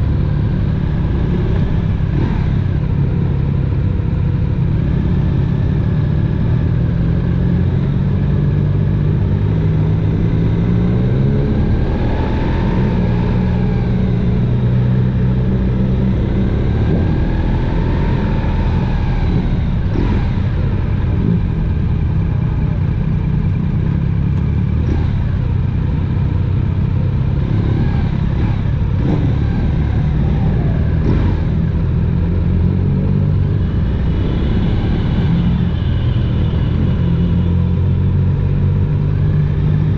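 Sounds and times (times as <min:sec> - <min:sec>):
motorcycle engine revving: 0:00.0 - 0:39.9
road and wind noise: 0:00.0 - 0:39.9.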